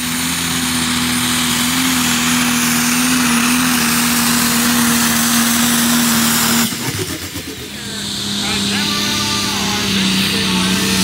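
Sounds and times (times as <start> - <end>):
tractor engine at high revs: 0.0 - 11.0.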